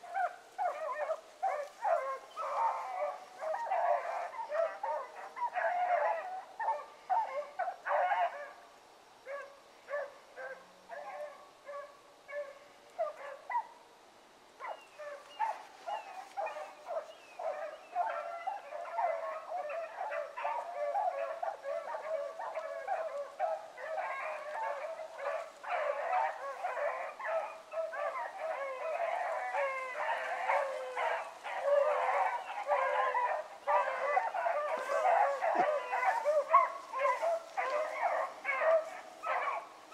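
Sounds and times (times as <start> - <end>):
dogs barking and baying: 0.0 - 8.6, 9.3 - 13.8, 14.6 - 39.9.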